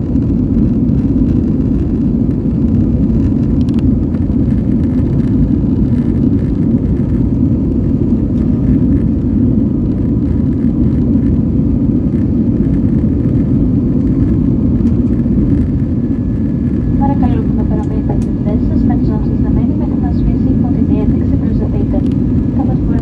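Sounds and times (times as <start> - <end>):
jet engines rumbling in flight: 0.0 - 23.0
faint steady hum: 1.2 - 23.0.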